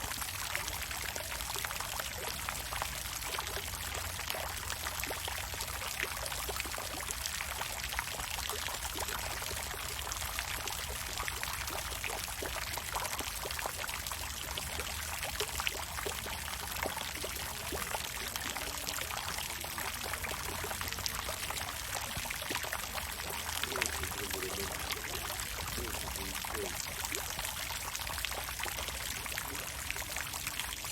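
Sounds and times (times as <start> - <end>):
water fountain splashing: 0.0 - 30.9.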